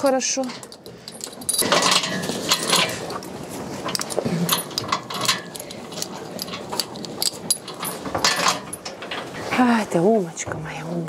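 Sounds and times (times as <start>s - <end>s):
metal chain clinking and rattling: 0.1s - 9.3s.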